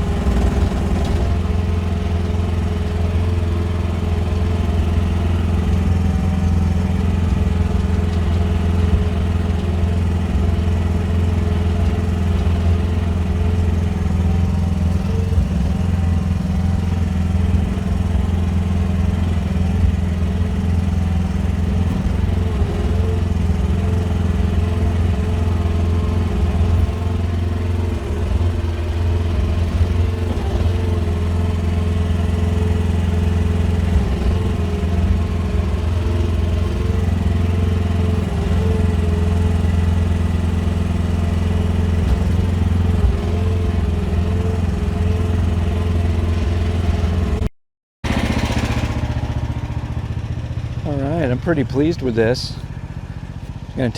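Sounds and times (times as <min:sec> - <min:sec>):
excavator engine humming: 0:00.0 - 0:47.5, 0:48.1 - 0:53.9.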